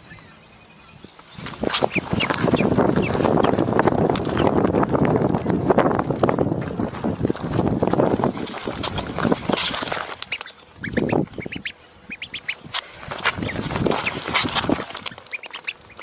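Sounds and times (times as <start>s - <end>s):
duckling peeping: 0.0s - 16.0s
low rustling noise: 1.1s - 16.0s.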